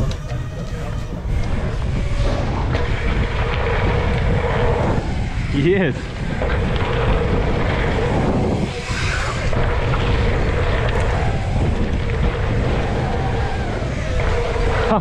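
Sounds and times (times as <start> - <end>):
tyres rolling on dirt: 0.0 - 15.0
wind buffeting microphone: 0.0 - 15.0.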